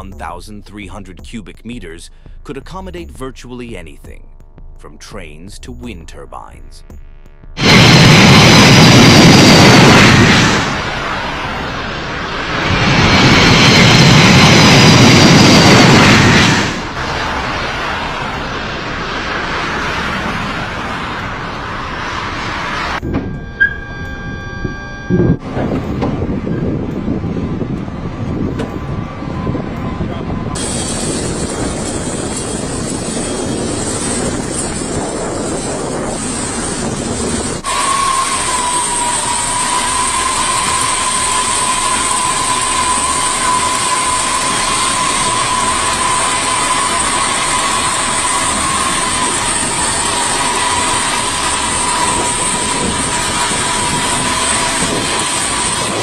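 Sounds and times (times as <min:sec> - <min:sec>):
jet engine noise: 0:05.9 - 0:56.0.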